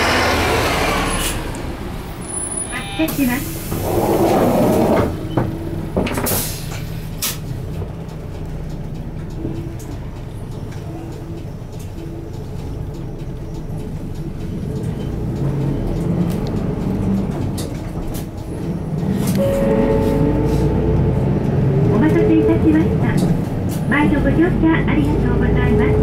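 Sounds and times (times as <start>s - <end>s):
diesel bus engine running: 0.0s - 26.0s.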